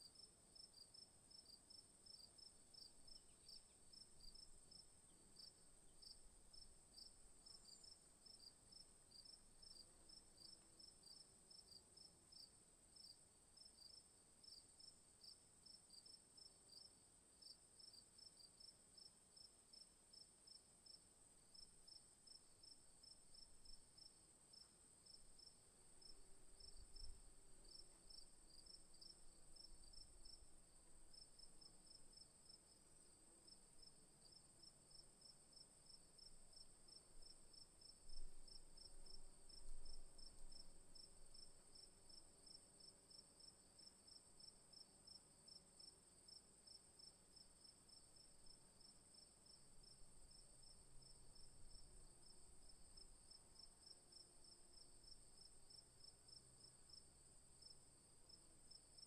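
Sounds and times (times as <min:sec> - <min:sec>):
cricket chirps: 0:00.0 - 0:59.0.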